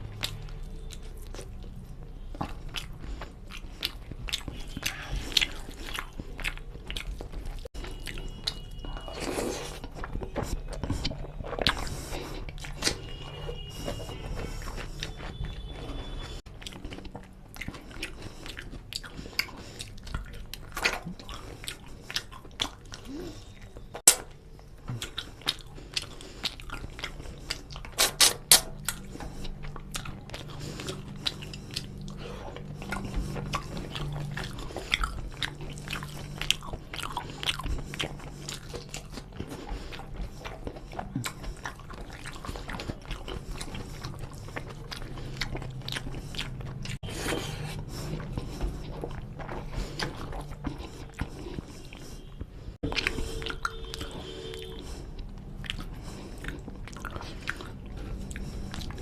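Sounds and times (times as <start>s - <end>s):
chewing and wet mouth smacks: 0.0s - 59.0s.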